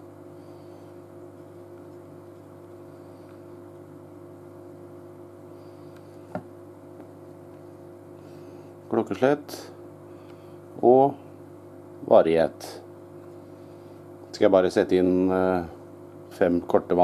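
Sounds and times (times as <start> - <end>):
humming held tones: 0.0 - 17.0.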